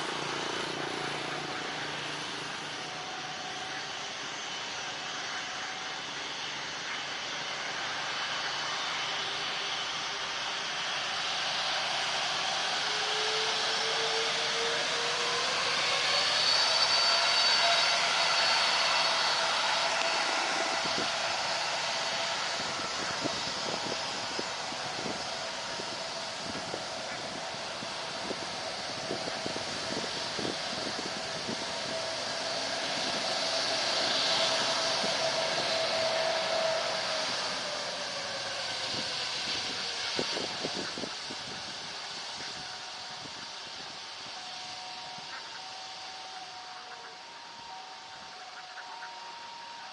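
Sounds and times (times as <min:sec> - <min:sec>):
jet engines roaring with whine: 0:00.0 - 0:49.9.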